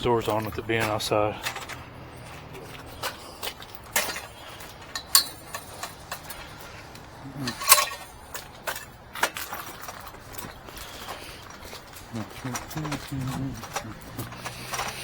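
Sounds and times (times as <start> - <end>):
clicks and knocks of hard objects: 0.0 - 15.0.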